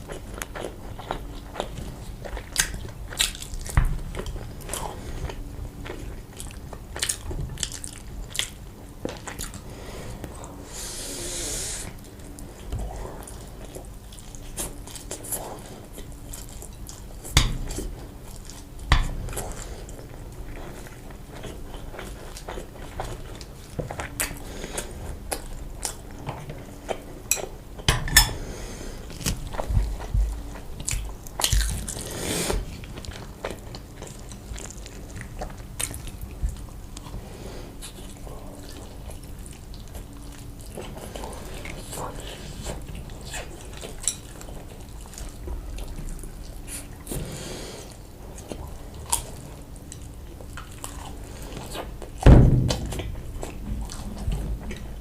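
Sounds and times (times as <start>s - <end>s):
person chewing and crunching: 0.0s - 52.2s, 52.8s - 55.0s.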